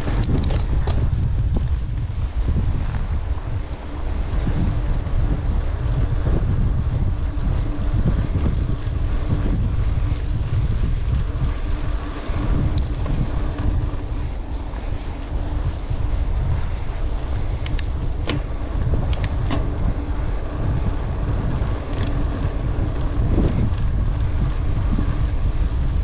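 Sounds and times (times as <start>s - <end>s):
bike knocks and rattles: 0.0s - 26.0s
bike rumbling on rough trail: 0.0s - 26.0s
wind buffeting microphone: 0.0s - 26.0s.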